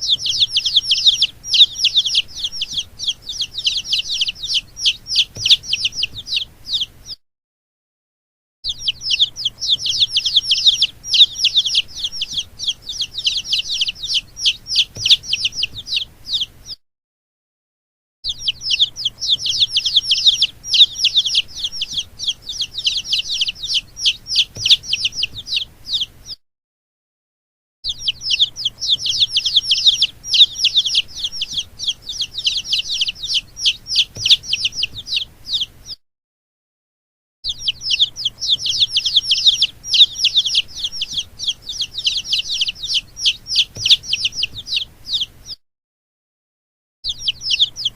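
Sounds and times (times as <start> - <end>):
baby chicks peeping: 0.0 - 7.2, 8.7 - 16.8, 18.3 - 26.4, 27.8 - 36.0, 37.4 - 45.6, 47.0 - 47.9.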